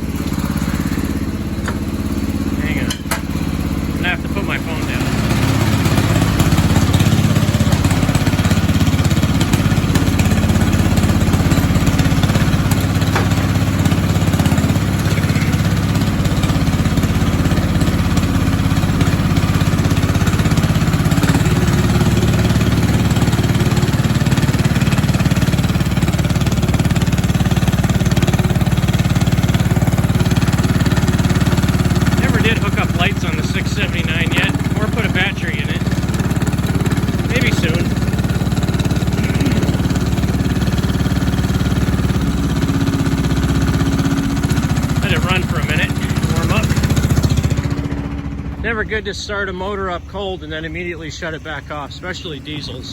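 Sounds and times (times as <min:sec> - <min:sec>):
diesel tractor engine running: 0:00.0 - 0:52.9.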